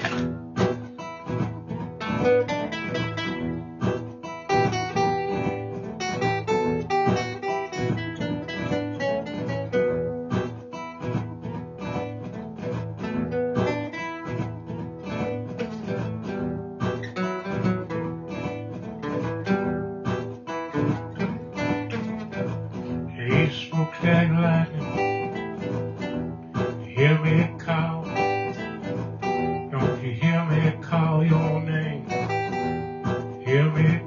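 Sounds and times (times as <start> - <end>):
acoustic guitar blues riff: 0.0 - 34.0.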